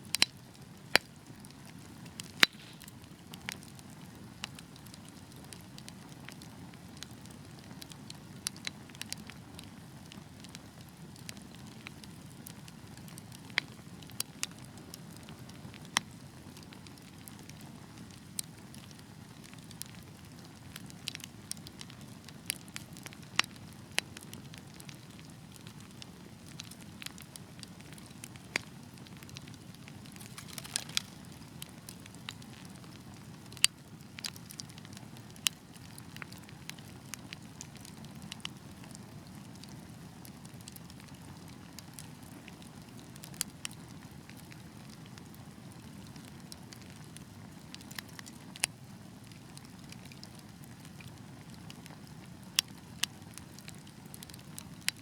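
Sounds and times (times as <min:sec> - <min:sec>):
fire crackling and popping: 0:00.0 - 0:55.0
low rumble of flames: 0:00.1 - 0:55.0.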